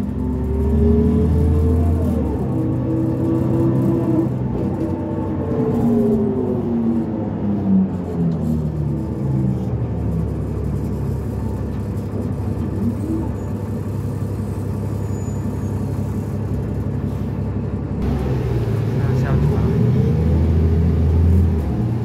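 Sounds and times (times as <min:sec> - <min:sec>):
bus diesel engine drone: 0:00.0 - 0:22.0
road rumble: 0:00.0 - 0:22.0.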